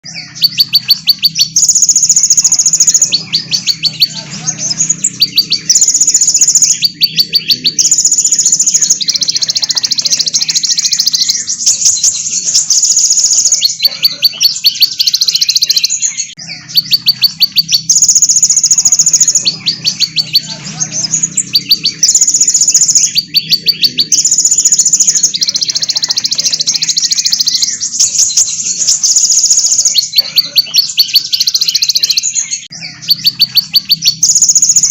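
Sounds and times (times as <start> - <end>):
songbirds chirping and trilling: 0.0 - 34.9.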